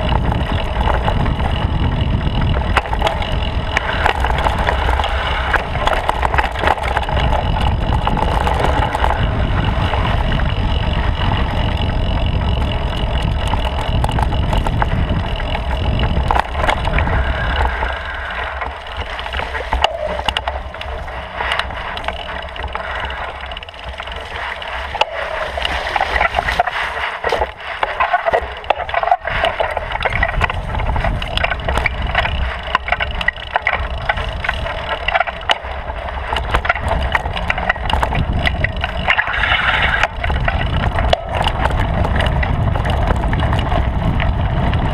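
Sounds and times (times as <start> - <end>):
bicycle clicks and rattles: 0.0 - 44.9
bicycle tyres crunching on dirt: 0.0 - 44.9
wind rumble on microphone: 0.0 - 44.9.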